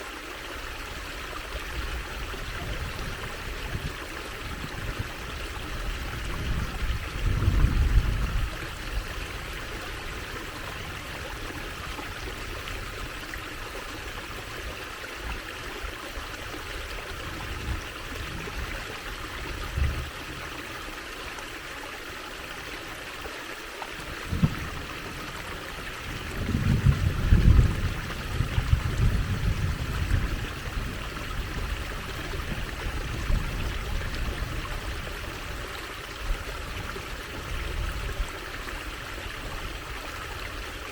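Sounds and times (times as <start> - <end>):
water trickling over stones: 0.0 - 40.9.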